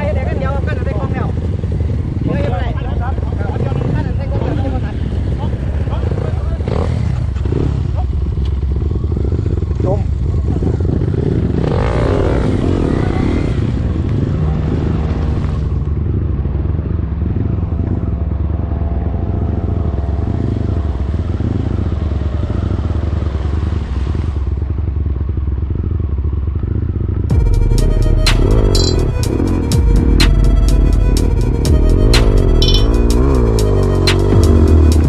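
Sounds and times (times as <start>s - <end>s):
vehicle engine droning: 0.0s - 35.0s.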